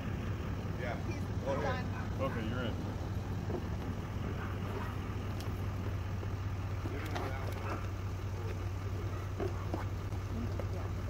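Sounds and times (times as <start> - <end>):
vehicle engine idling: 0.0 - 11.0
faint voices: 0.6 - 11.0.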